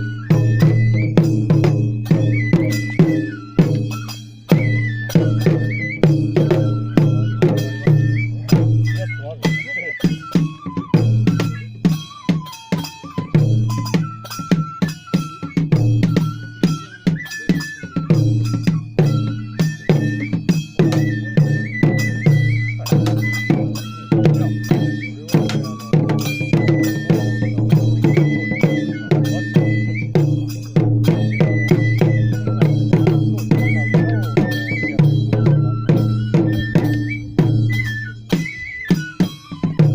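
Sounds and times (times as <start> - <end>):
clanking metal percussion: 0.0 - 39.9
drum strokes: 0.0 - 39.9.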